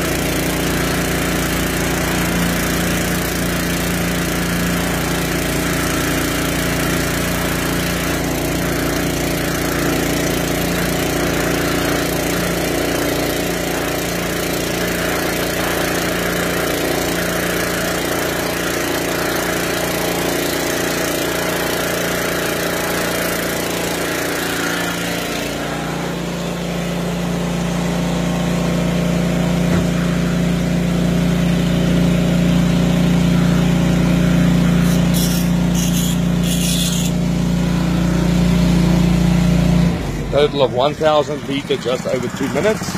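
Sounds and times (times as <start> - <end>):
engine-driven water pump running: 0.0 - 42.9
water rushing from hose: 0.0 - 42.9.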